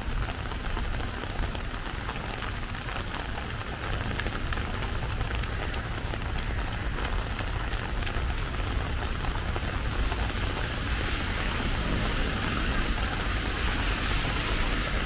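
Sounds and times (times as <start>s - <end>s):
raindrops ticking on umbrella: 0.0s - 15.0s
steady rain hiss: 0.0s - 15.0s.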